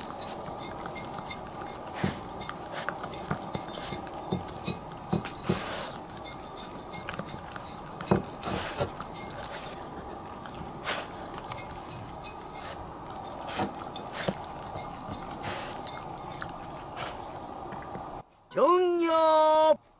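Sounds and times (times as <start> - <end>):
dog licking a ceramic plate: 0.0 - 17.4.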